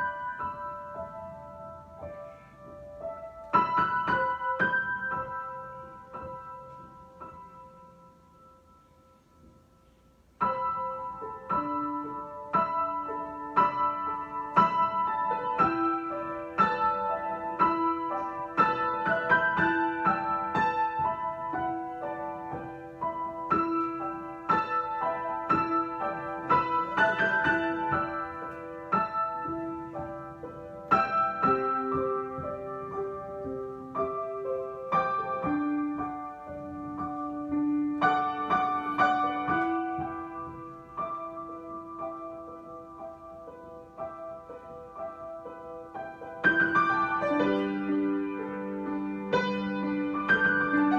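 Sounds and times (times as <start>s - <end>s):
solo piano: 0.0s - 50.9s.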